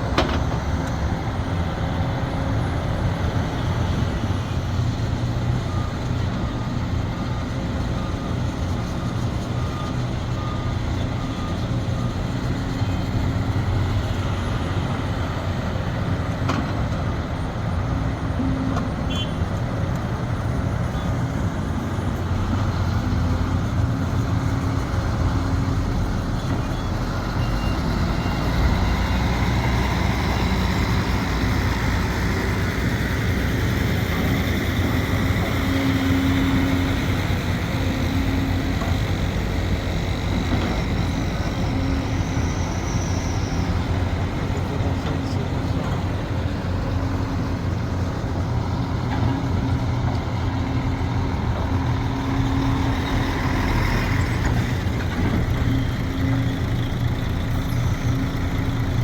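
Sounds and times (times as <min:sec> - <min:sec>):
excavator diesel engine working: 0:00.0 - 0:59.0.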